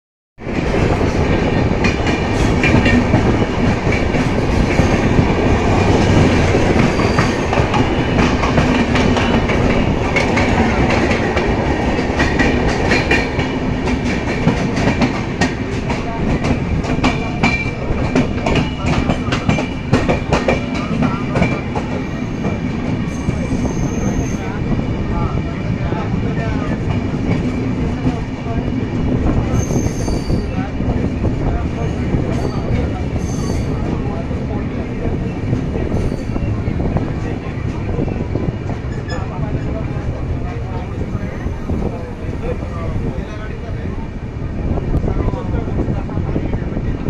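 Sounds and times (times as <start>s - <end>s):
train rumble: 0.4s - 47.0s.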